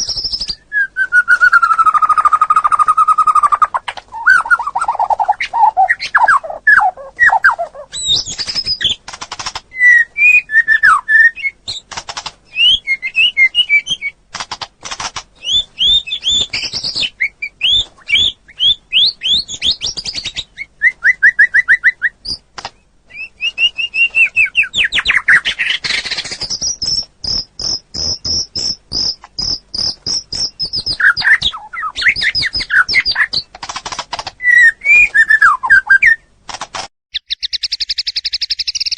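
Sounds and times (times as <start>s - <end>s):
songbirds singing: 0.0s - 36.4s, 37.1s - 38.9s.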